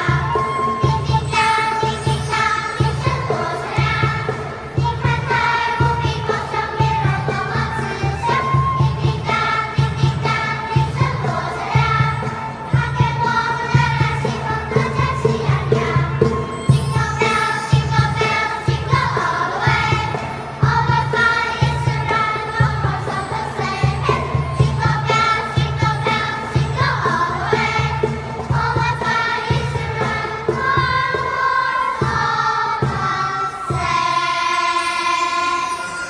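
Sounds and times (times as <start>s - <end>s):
children's choir singing: 0.0s - 36.0s.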